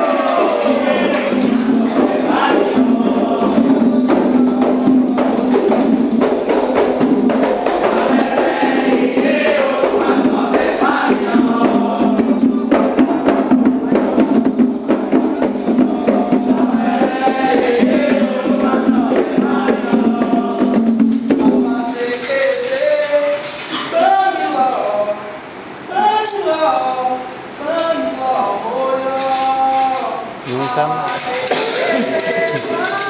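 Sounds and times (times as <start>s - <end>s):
rapid percussion: 0.0s - 25.1s, 27.4s - 33.0s
group singing ritual chant: 0.0s - 33.0s.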